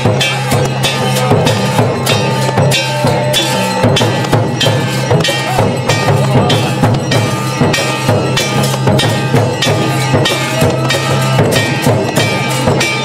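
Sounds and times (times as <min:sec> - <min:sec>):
drum beat: 0:00.0 - 0:13.0
ringing percussion strikes: 0:00.0 - 0:13.0.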